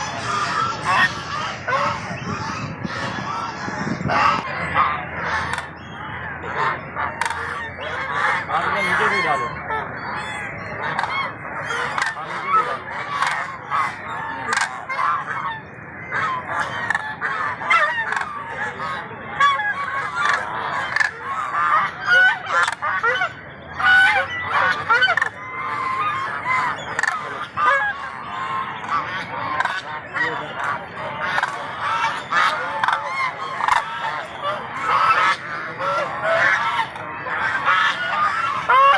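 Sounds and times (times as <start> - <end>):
ducks quacking: 0.0 - 38.9
geese honking: 0.0 - 38.9.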